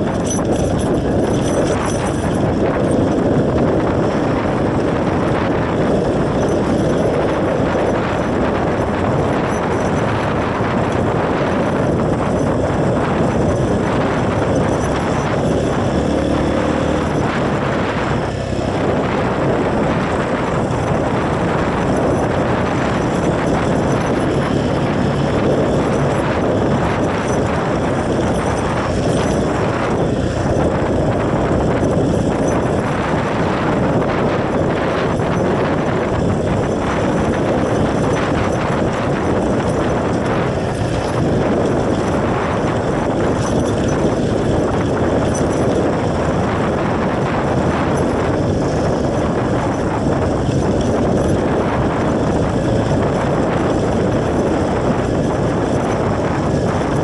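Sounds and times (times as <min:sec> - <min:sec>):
motorcycle engine: 0:00.0 - 0:57.0
rapid rattling clatter: 0:00.0 - 0:57.0
wind noise: 0:00.0 - 0:57.0.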